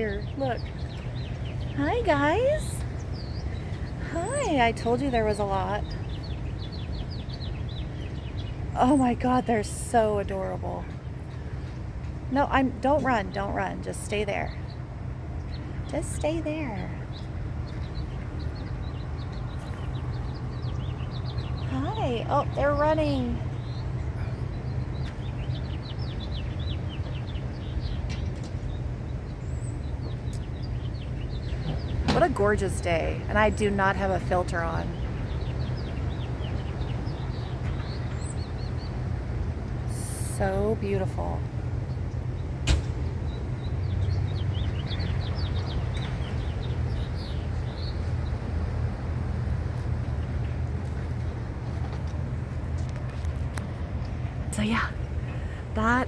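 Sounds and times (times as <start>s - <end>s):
small birds chirping: 0.0s - 56.0s
steady low rumble: 0.0s - 56.0s.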